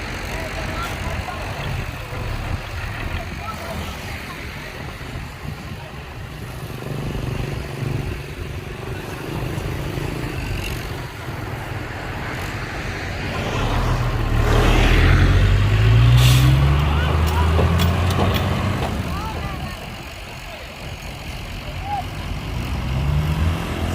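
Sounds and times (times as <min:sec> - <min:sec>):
heavy diesel engine running: 0:00.0 - 0:23.9.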